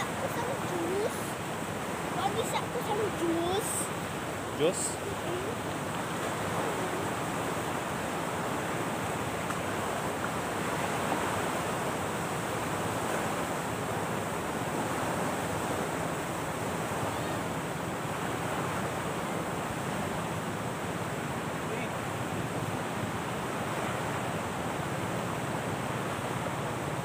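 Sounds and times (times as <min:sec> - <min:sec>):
surf hiss: 0:00.0 - 0:27.0
wind: 0:00.0 - 0:27.0.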